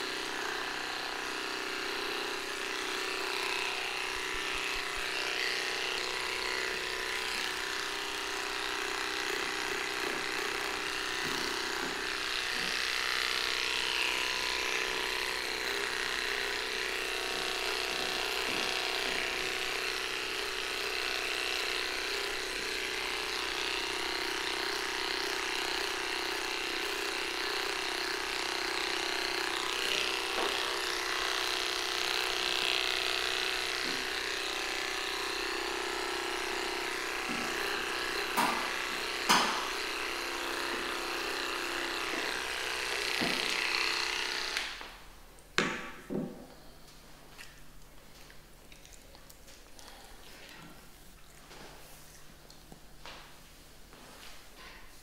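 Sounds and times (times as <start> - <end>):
electric pet clippers running: 0.0 - 47.7.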